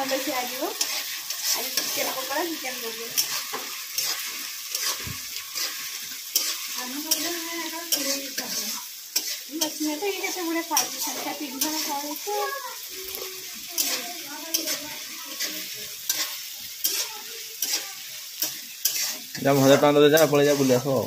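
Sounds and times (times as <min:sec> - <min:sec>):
metal ladle scraping pan: 0:00.0 - 0:12.9, 0:13.7 - 0:21.0
spices sizzling in oil: 0:00.0 - 0:21.0.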